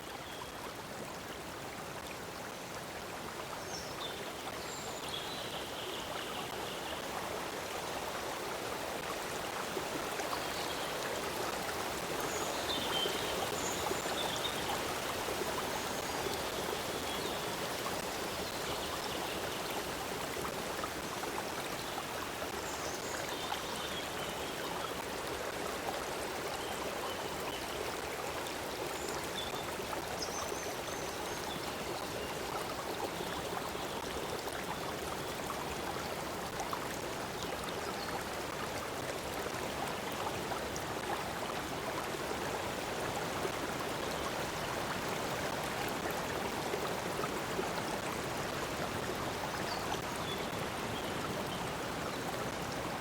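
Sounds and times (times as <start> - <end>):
stream of water flowing: 0.0 - 53.0.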